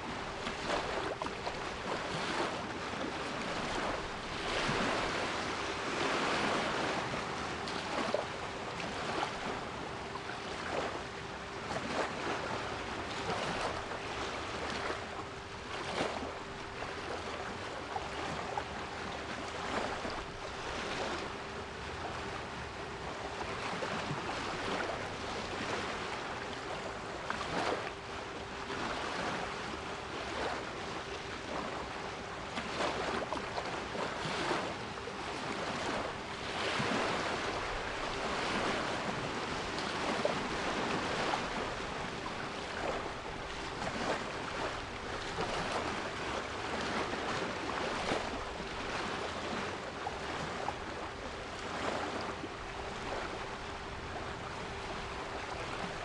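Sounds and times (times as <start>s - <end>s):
sea waves washing ashore: 0.0s - 56.0s.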